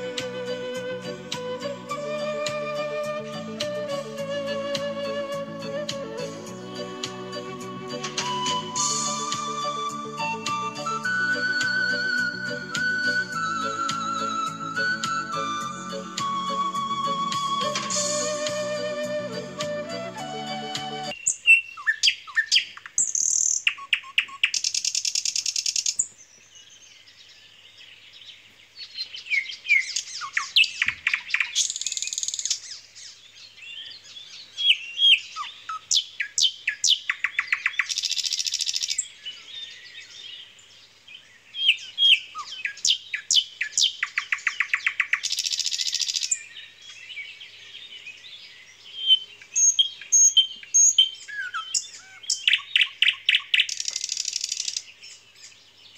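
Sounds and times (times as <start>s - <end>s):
bird chirps: 0.0s - 55.9s
songbirds singing trills: 0.0s - 55.9s.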